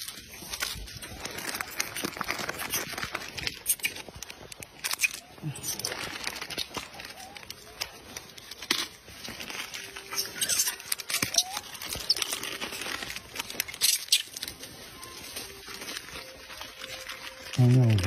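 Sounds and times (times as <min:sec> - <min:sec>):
plastic wrapper crinkling: 0:00.0 - 0:18.0.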